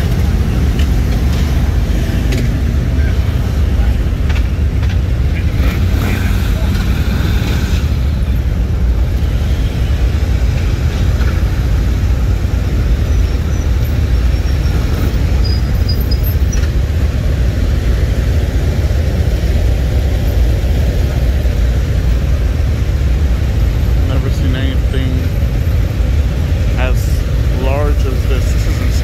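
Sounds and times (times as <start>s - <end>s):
motorcycle engines rumbling: 0.0s - 29.0s.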